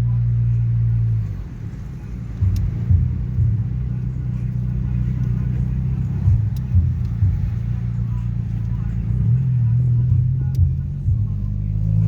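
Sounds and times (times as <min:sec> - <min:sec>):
heavy bass music from car: 0:00.0 - 0:12.0.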